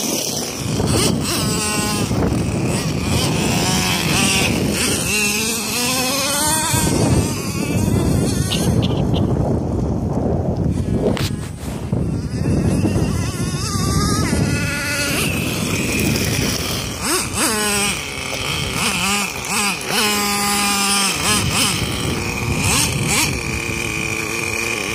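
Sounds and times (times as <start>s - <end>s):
small nitro engine revving: 0.0s - 10.0s, 10.6s - 24.9s.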